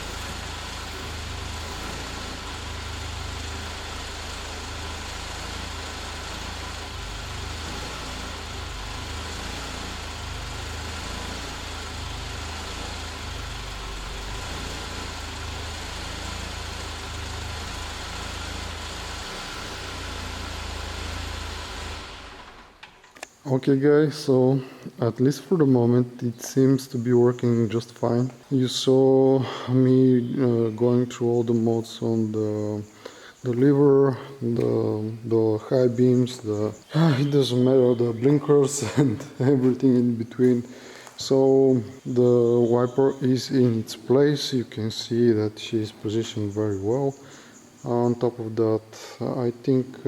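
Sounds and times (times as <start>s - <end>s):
car engine idling: 0.0s - 24.5s, 25.6s - 50.0s.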